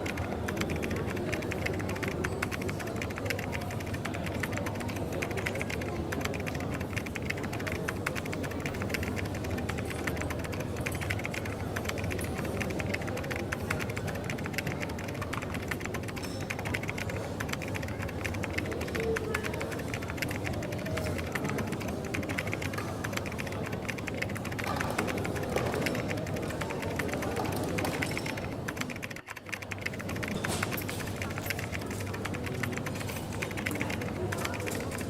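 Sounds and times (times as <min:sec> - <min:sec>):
coffee shop ambience: 0:00.0 - 0:35.0
keyboard typing: 0:00.0 - 0:35.0.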